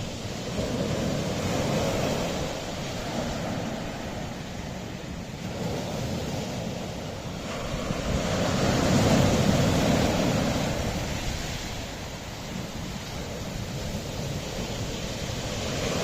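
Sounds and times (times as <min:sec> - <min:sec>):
waves washing on rocky shore: 0:00.0 - 0:16.0.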